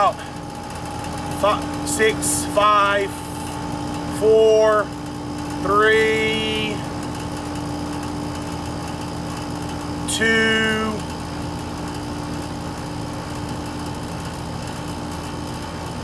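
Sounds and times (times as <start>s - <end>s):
air conditioner compressor humming: 0.0s - 16.0s.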